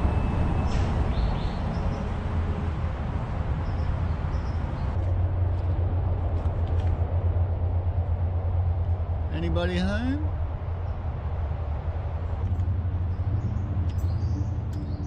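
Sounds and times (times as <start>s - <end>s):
freeway traffic rumble: 0.0s - 15.0s.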